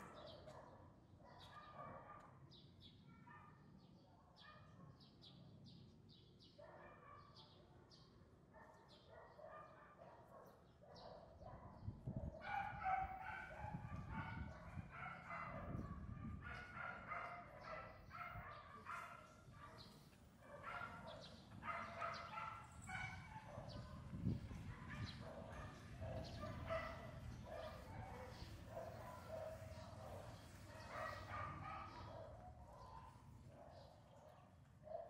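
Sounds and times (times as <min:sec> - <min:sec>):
dog barking: 0:00.0 - 0:02.4, 0:03.1 - 0:03.7, 0:04.3 - 0:05.0, 0:06.6 - 0:07.6, 0:08.5 - 0:35.0
birds chirping: 0:04.4 - 0:35.0.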